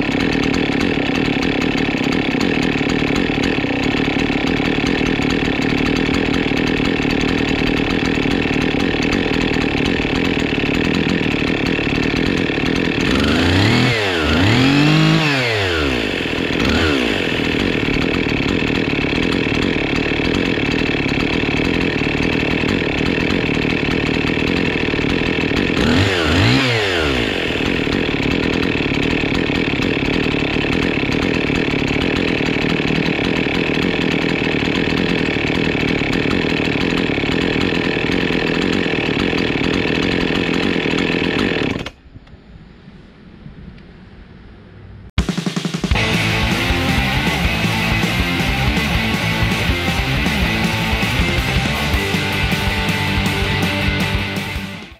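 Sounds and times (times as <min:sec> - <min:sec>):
chainsaw idling with throttle blips: 0:00.0 - 0:42.0, 0:45.2 - 0:54.9.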